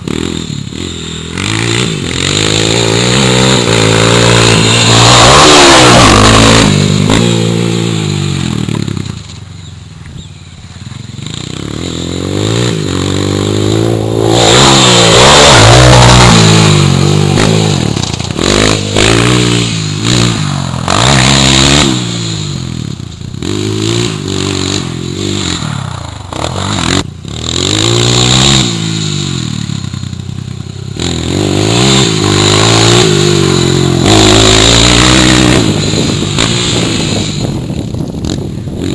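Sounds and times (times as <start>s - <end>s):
dirt bike engine revving: 0.0s - 9.4s, 11.0s - 38.9s.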